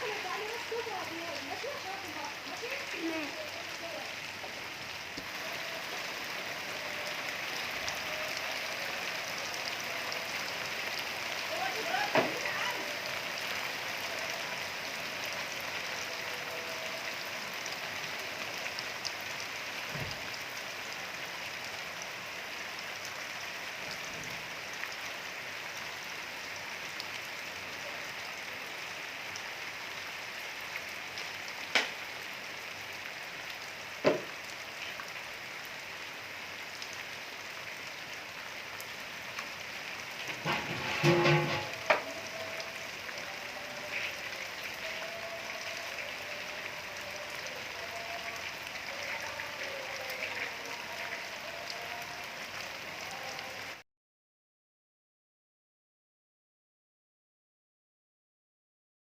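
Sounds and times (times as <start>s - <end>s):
steady rain pattering: 0.0s - 53.8s.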